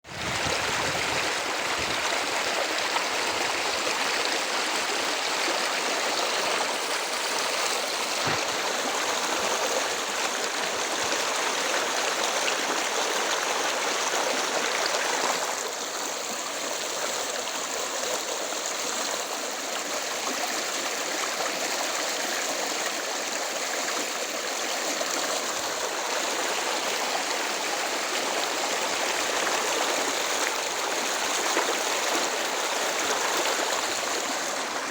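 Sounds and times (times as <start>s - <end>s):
river water rushing over rocks: 0.1s - 21.0s, 23.3s - 34.9s.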